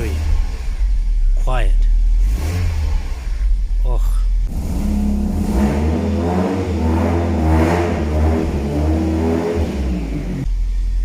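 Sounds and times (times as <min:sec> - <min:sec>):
car engine lightly revving: 0:00.0 - 0:11.0.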